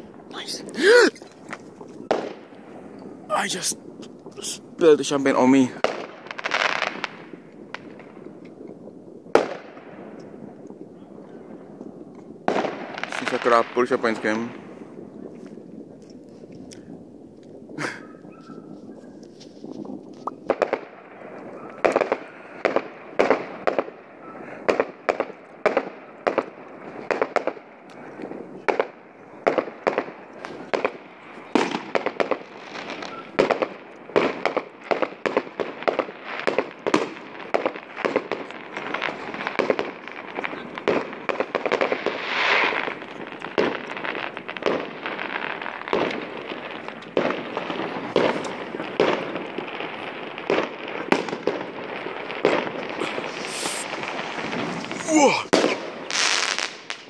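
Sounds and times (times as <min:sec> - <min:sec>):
firework bangs: 0:00.0 - 0:57.0
fireworks crackle: 0:00.0 - 0:57.0.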